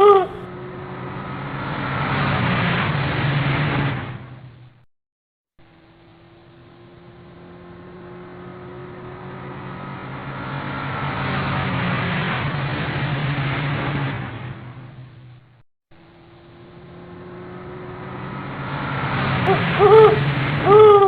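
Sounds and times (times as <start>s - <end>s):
vehicle engine and road noise: 0.0s - 4.9s, 5.6s - 21.0s.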